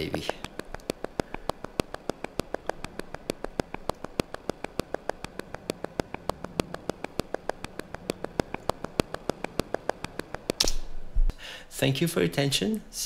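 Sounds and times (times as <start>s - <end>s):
glitchy electronic clicks: 0.0s - 10.9s.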